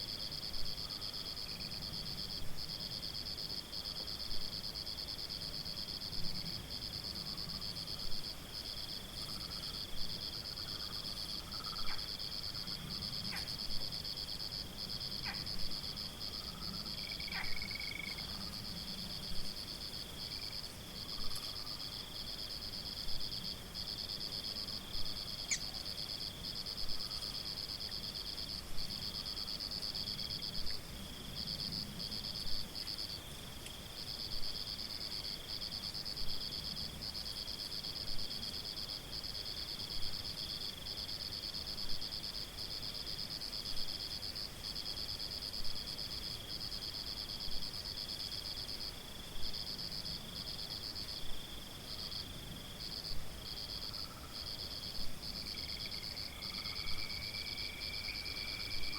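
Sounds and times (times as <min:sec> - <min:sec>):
lower insect trill: 0:00.0 - 0:58.9
crickets trilling: 0:00.1 - 0:58.9.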